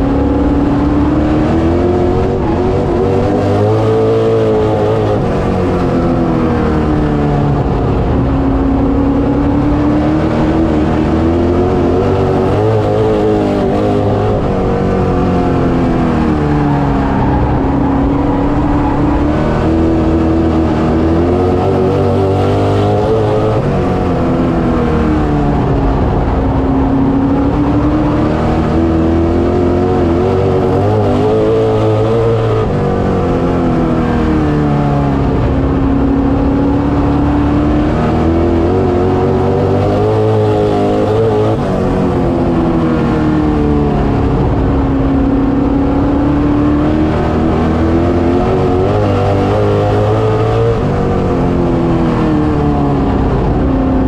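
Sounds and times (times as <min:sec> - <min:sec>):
race car engine under load: 0:00.0 - 0:54.0.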